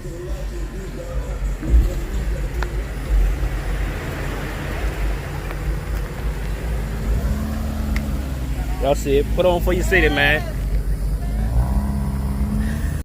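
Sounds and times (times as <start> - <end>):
car engines rumbling: 0.0 - 13.0
traffic noise: 0.0 - 13.0.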